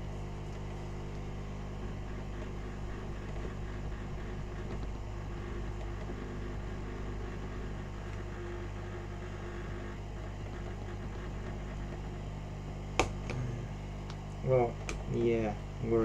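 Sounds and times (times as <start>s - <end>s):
electric appliance humming: 0.0s - 16.0s.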